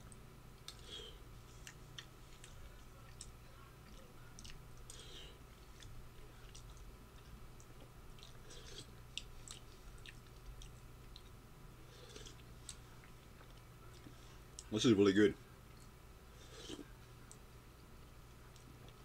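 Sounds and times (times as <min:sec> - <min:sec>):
faint chewing: 0:00.0 - 0:14.7, 0:15.6 - 0:19.0
steady low hum: 0:00.0 - 0:19.0.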